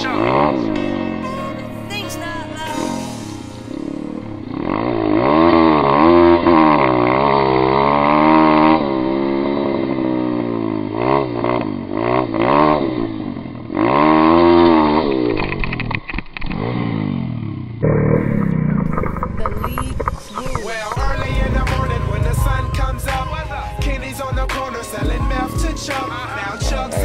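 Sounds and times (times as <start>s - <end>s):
small engine revving: 0.0s - 2.0s, 2.7s - 27.0s.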